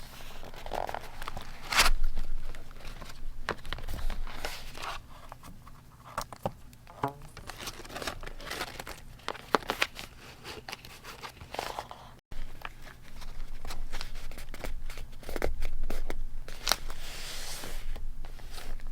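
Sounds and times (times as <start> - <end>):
paper crinkling and rustling: 0.0 - 6.5, 7.3 - 18.9.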